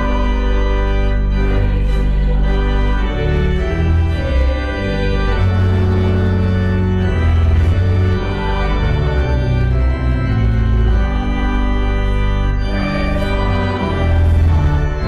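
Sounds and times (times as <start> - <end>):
organ playing held chords: 0.0 - 15.0.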